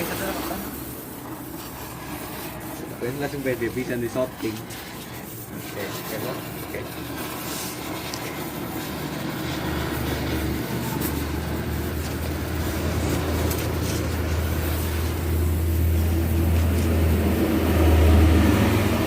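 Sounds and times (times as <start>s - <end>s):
low exhaust drone: 0.0s - 19.0s.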